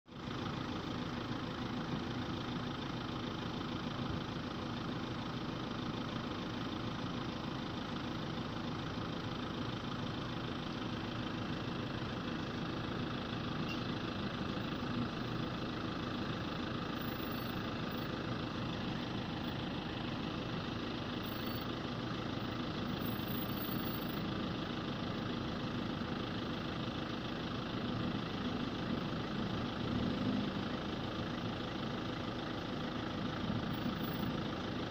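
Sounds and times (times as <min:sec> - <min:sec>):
pickup truck engine idling: 0:00.1 - 0:34.9.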